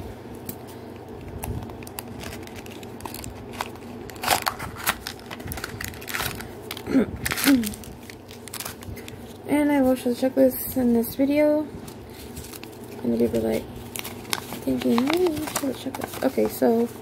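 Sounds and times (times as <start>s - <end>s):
cardboard and packaging crinkling: 1.1s - 10.2s, 11.8s - 17.0s.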